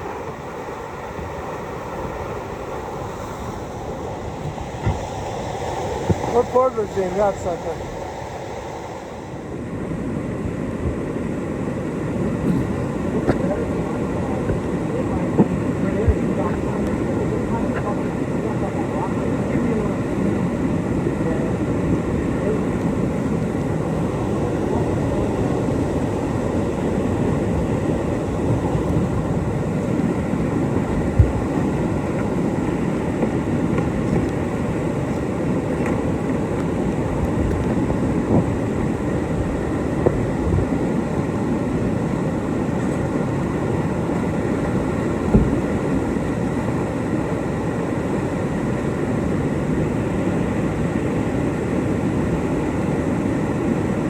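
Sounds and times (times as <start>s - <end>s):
whitewater rapids roaring: 0.0s - 54.0s.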